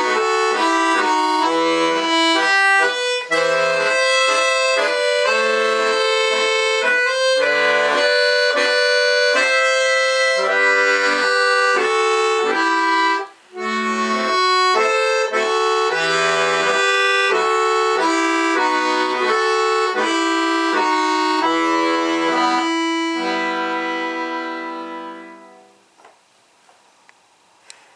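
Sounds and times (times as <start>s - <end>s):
button accordion folk music: 0.0s - 25.8s.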